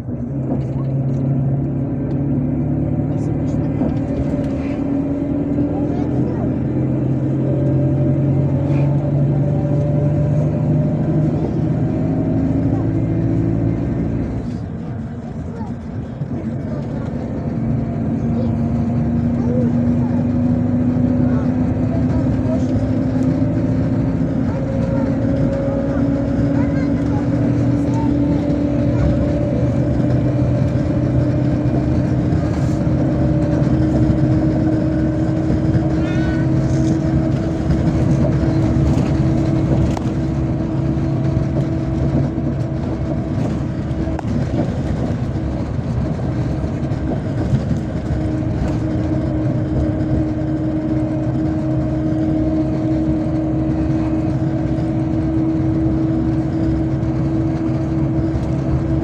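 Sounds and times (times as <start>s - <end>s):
bus engine hum inside cabin: 0.0s - 59.0s
road noise: 0.0s - 59.0s.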